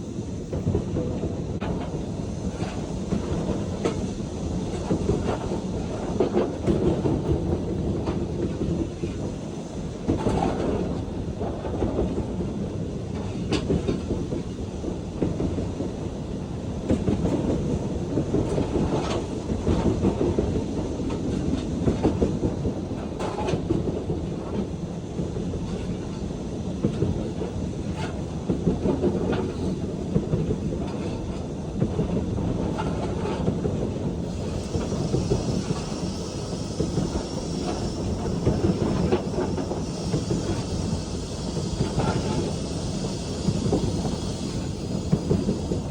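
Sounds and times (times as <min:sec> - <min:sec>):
high steam hiss: 0:00.0 - 0:45.9
train rumbling on rails: 0:00.0 - 0:45.9.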